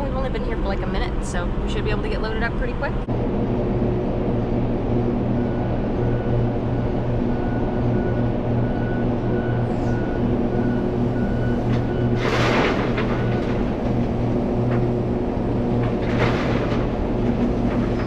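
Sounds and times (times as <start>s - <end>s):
heavy vehicle engine idling: 0.0s - 18.0s.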